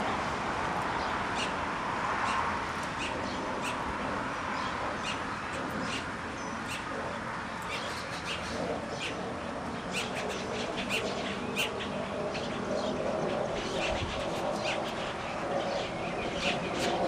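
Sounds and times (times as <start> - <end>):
steady background noise: 0.0 - 17.0
birds chirping: 0.8 - 17.0.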